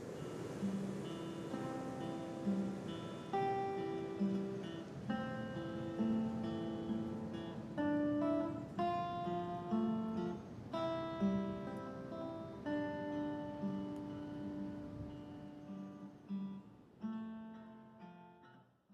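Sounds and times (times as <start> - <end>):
acoustic guitar strumming chords: 0.0 - 18.6.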